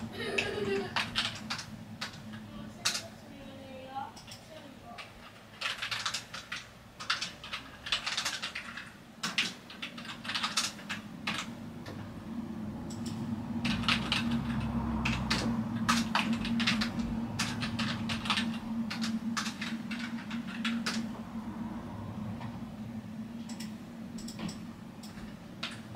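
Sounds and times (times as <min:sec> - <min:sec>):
low steady hum: 0:00.0 - 0:25.9
computer keyboard typing: 0:00.4 - 0:03.2, 0:04.1 - 0:12.1, 0:12.7 - 0:21.4, 0:23.4 - 0:25.9.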